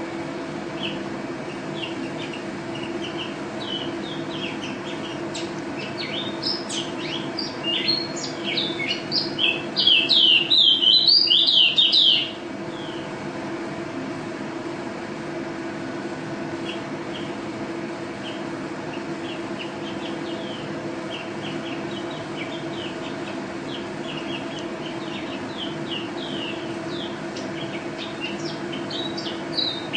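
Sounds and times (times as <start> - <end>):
steady low hum: 0.0 - 29.9
songbird chirping and singing: 0.8 - 13.0, 16.6 - 17.4, 18.2 - 29.9.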